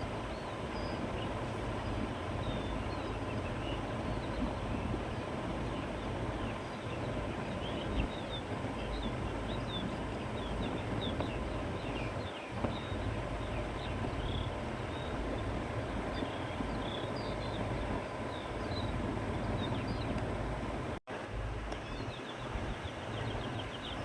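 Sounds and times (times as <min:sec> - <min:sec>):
small birds chirping: 0:00.0 - 0:20.9, 0:21.7 - 0:24.0
wind rushing and rumbling: 0:00.0 - 0:24.0.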